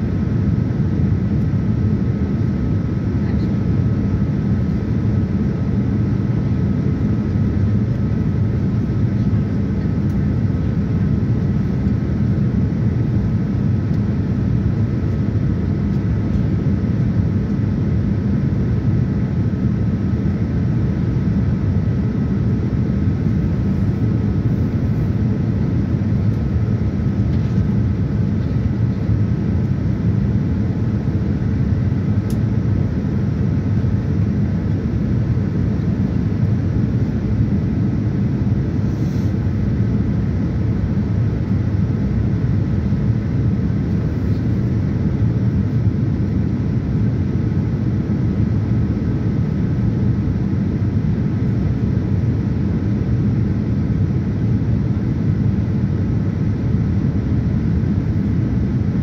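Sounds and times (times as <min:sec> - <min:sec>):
engine low rumble: 0:00.0 - 0:59.0
faint steady whine: 0:00.0 - 0:59.0.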